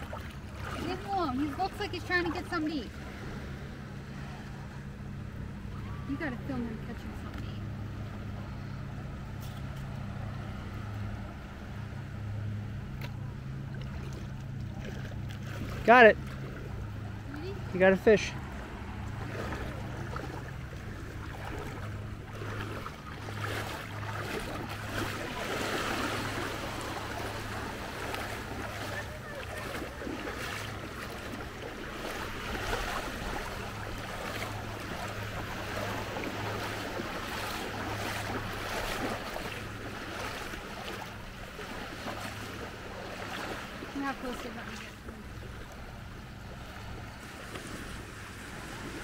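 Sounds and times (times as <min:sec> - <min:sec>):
small waves lapping: 0:00.0 - 0:49.0.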